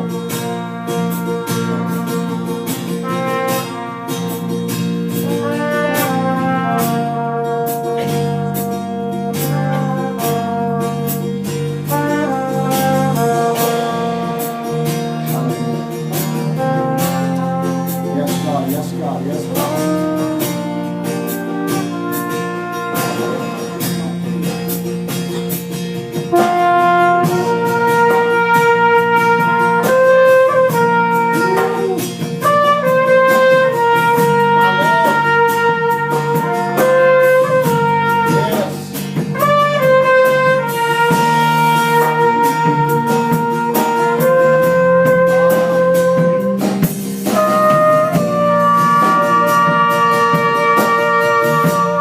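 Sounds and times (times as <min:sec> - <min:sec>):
trumpet playing slow melody: 0:00.0 - 0:24.4, 0:26.3 - 0:52.0
instrumental accompaniment: 0:00.0 - 0:52.0.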